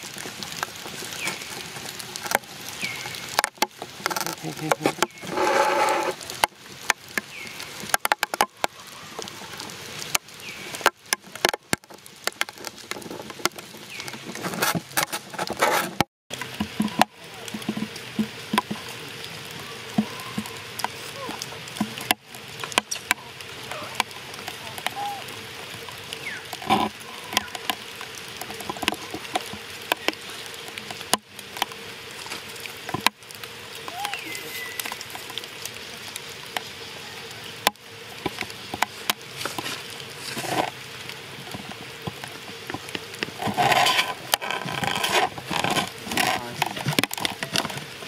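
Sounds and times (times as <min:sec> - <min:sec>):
crackling clicks and rustles: 0:00.0 - 0:48.0.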